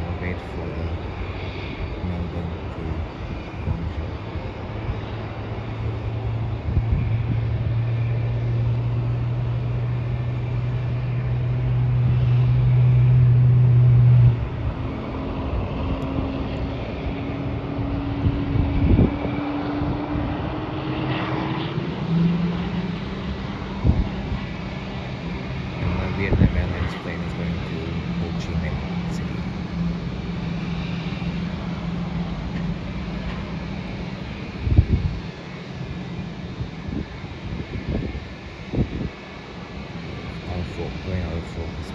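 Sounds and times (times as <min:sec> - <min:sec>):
aircraft and vehicle engine drone: 0:00.0 - 0:41.9
steady higher hum: 0:00.0 - 0:41.9.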